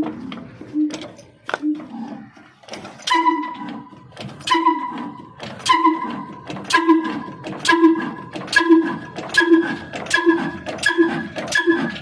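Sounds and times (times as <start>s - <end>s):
slow-running stationary engine: 0.0s - 12.0s.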